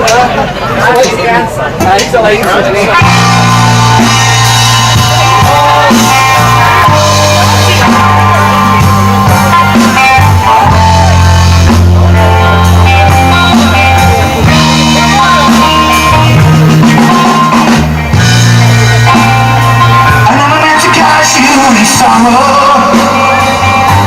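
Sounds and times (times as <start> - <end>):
drum kit: 1.8 - 24.0
bass guitar: 2.5 - 24.0
electric guitar: 2.9 - 24.0.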